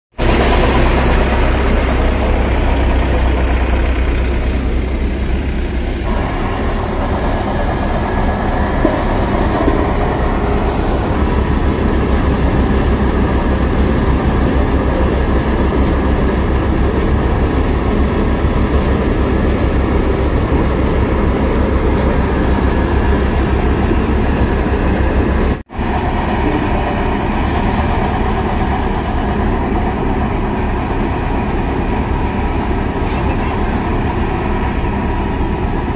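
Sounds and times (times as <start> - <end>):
threshing machine running: 0.2 - 35.9.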